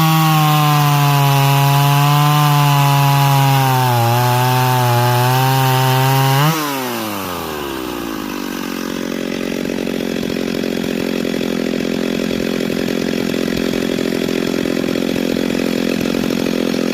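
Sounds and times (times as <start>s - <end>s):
chainsaw engine revving then idling: 0.0s - 16.9s.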